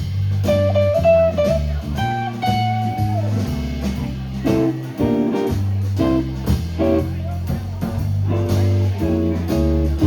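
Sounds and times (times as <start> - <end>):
electric blues band playing: 0.0 - 10.0.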